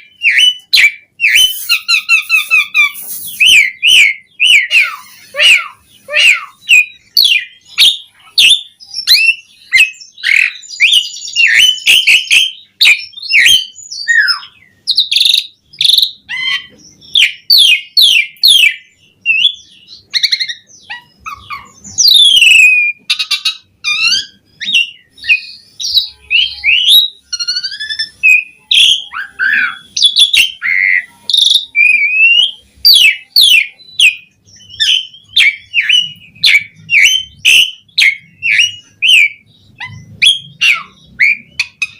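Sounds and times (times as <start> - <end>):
starling singing: 0.0 - 41.9.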